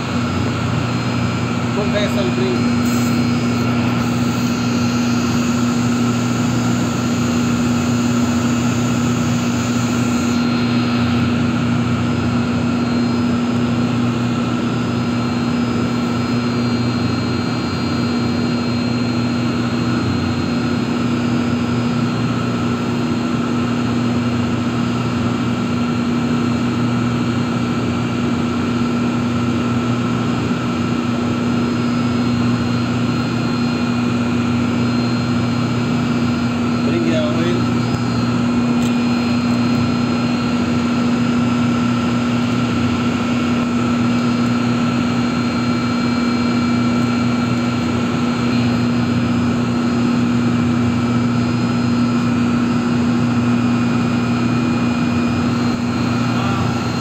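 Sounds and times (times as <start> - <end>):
faint high whine: 0.0 - 22.4, 31.3 - 57.0
machinery hum: 0.0 - 57.0.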